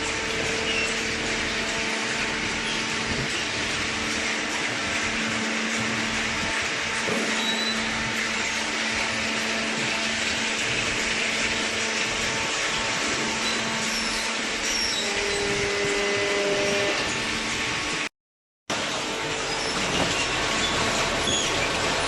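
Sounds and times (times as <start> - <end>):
electric motor and pump whirring: 0.0 - 18.1, 18.7 - 22.0.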